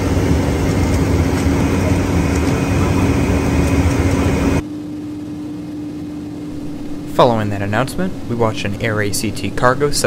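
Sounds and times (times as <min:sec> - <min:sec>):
airplane cabin engine hum: 0:00.0 - 0:10.0.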